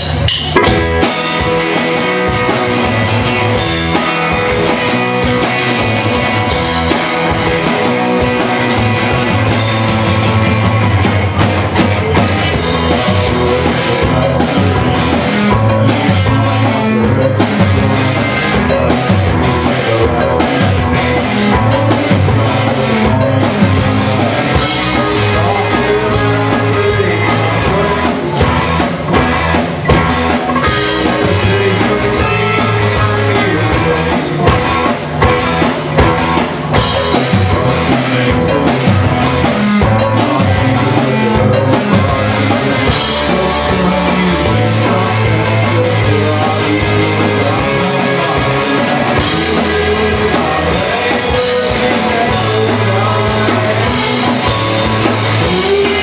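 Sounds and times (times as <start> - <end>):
distorted electric guitars: 0.0 - 56.0
drum kit beat: 0.0 - 56.0.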